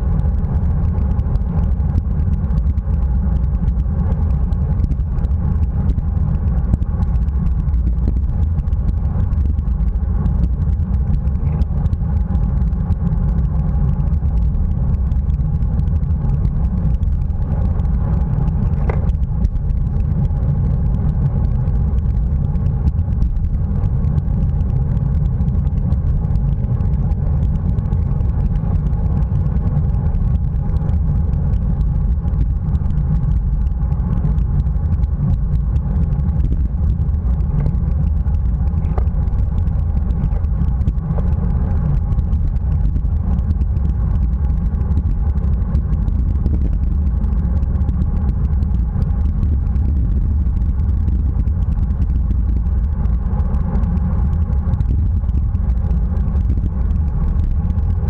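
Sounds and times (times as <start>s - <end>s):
bicycle road noise: 0.0s - 58.0s
wind rumble on microphone: 0.0s - 58.0s.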